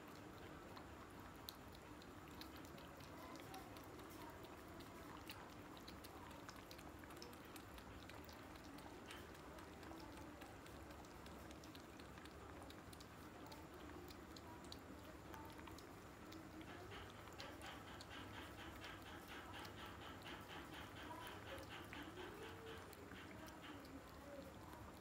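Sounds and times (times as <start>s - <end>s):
cats lapping milk: 0.0s - 25.0s.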